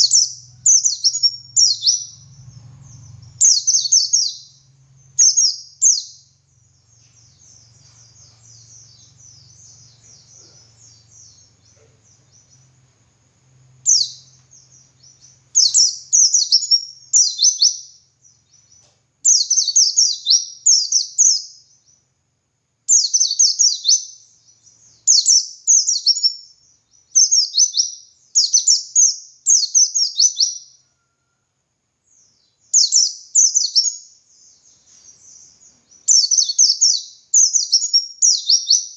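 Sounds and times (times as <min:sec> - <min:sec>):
white-eye bird singing: 0:00.0 - 0:22.2, 0:22.9 - 0:38.9.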